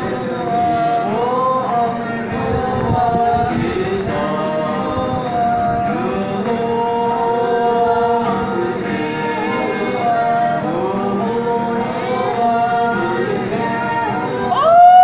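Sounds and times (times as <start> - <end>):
acoustic guitar: 0.0 - 15.0
group singing in harmony: 0.0 - 15.0.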